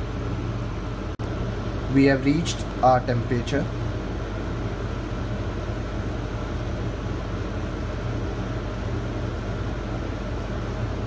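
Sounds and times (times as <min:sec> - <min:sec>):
freezer humming: 0:00.0 - 0:11.0.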